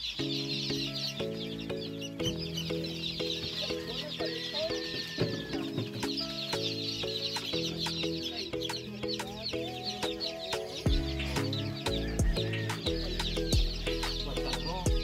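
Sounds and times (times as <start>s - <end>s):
background music with chords: 0.0s - 15.0s
chicks peeping: 0.0s - 15.0s.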